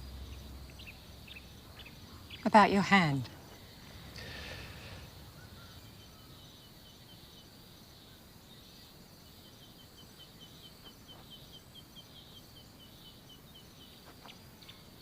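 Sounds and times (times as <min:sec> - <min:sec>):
low outdoor hiss: 0:00.0 - 0:15.0.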